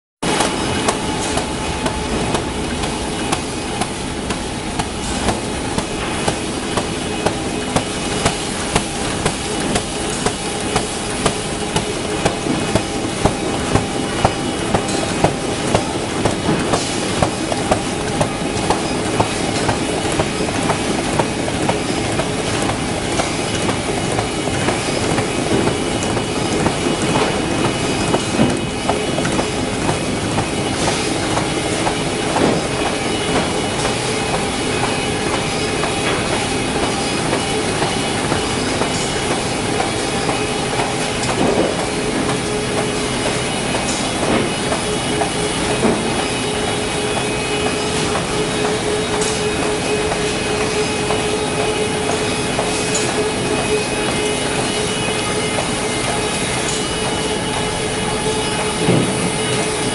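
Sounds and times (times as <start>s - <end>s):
machine belts and rollers humming: 0.2s - 59.9s.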